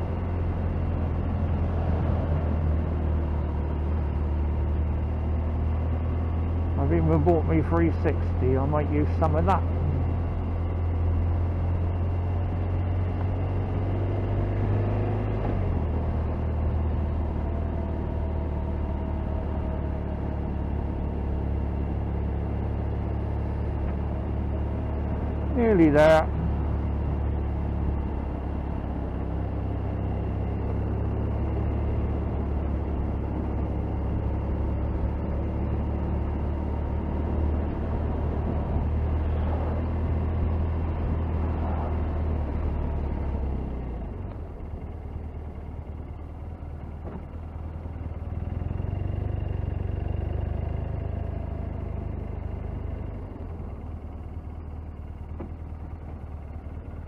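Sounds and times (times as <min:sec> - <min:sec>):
motorcycle engine rumble: 0:00.0 - 0:57.0.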